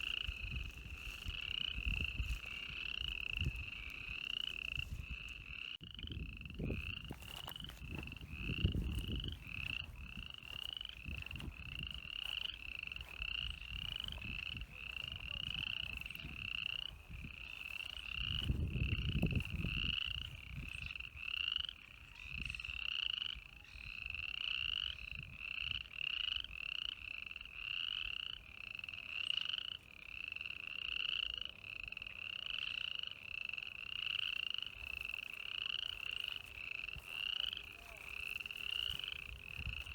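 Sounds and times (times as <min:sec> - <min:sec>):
frog calling: 0:00.0 - 0:39.9.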